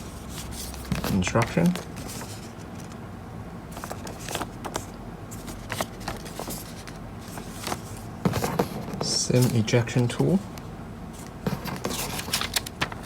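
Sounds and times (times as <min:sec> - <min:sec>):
paper and cardboard rustling: 0:00.0 - 0:03.0, 0:03.7 - 0:10.4, 0:11.1 - 0:13.0.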